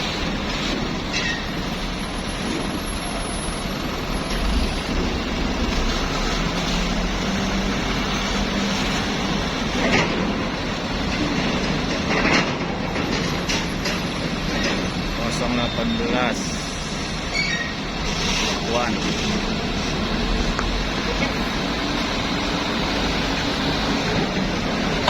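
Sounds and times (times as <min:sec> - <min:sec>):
large vehicle rumbling: 0:00.0 - 0:25.0.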